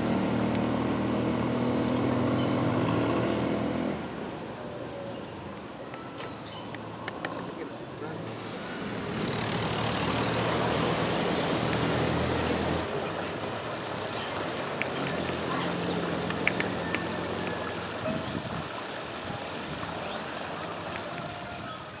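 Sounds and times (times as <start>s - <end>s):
vehicle engine humming: 0.0s - 5.7s, 6.6s - 21.6s
creek running over rocks: 0.0s - 22.0s.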